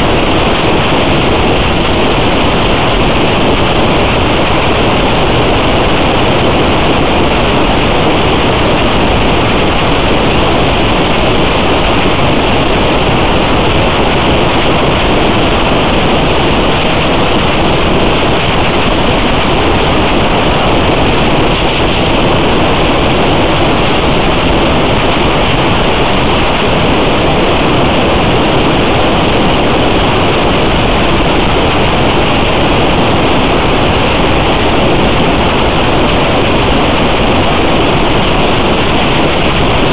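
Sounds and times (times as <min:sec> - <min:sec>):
loud steady hiss: 0:00.0 - 0:39.9.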